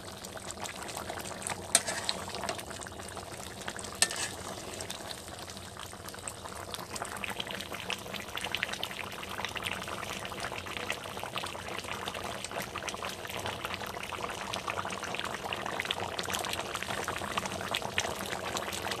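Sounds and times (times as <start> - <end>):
curry bubbling and popping: 0.0 - 19.0.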